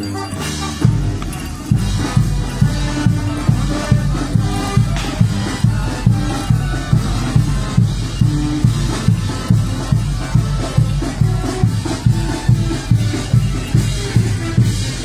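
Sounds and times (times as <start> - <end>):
low bass notes: 0.0 - 15.0
steady drum beat: 0.3 - 15.0.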